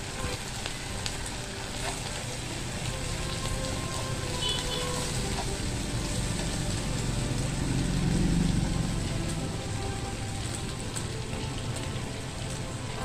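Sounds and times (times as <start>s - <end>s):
faint background music: 0.0s - 13.0s
meat sizzling on grill: 0.0s - 13.0s.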